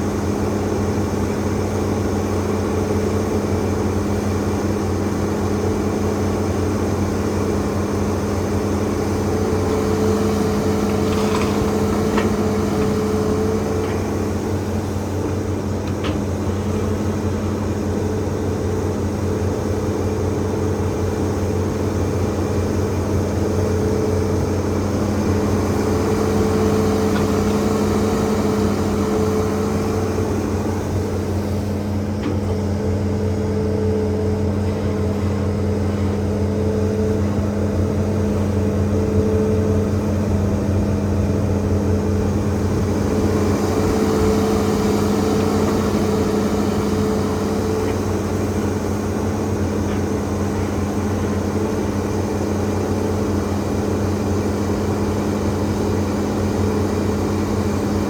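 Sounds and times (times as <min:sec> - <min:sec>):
excavator engine droning: 0:00.0 - 0:58.0.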